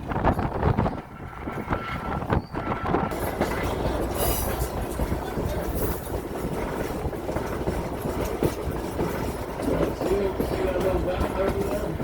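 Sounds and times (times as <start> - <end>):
train rumbling on track: 0.0 - 12.0
wheels rattling and clicking: 0.0 - 12.0.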